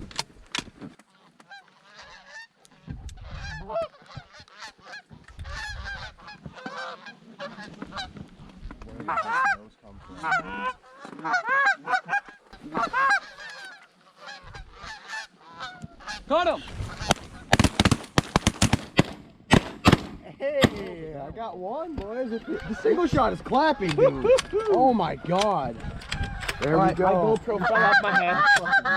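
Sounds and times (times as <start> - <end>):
geese honking: 1.0 - 18.8, 22.1 - 28.9.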